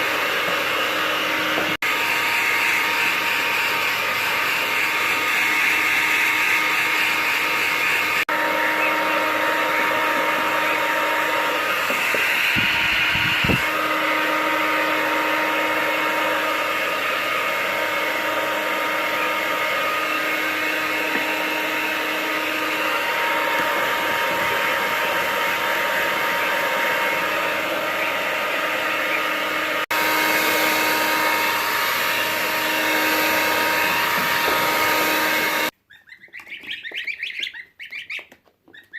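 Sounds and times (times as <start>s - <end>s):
hair dryer blowing: 0.0s - 35.7s.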